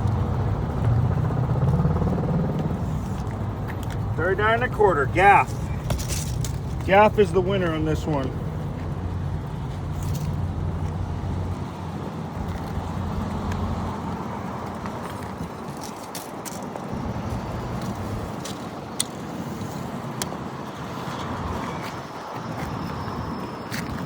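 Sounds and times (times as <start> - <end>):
road traffic passing: 0.0 - 24.0
vehicle engine drone: 0.0 - 24.0.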